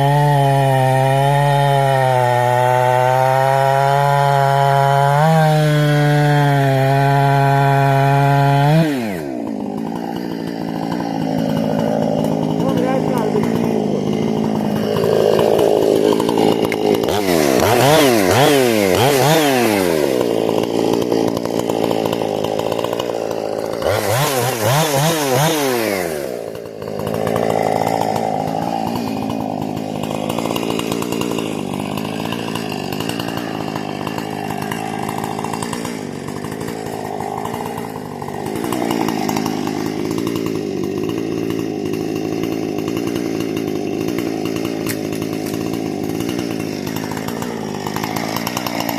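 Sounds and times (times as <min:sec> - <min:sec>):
chainsaw engine revving: 0:00.0 - 0:48.9.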